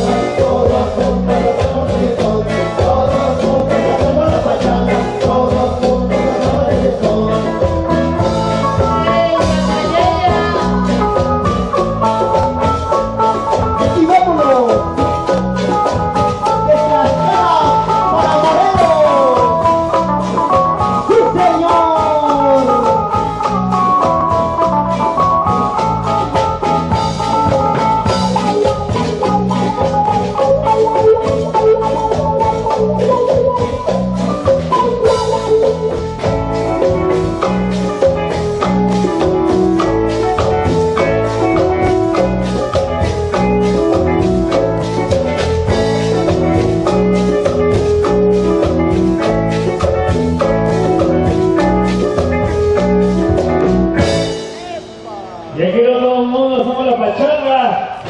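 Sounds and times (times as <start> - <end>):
drum kit: 0.0 - 55.7
keyboard: 0.0 - 58.0
live band instrumental: 0.0 - 58.0.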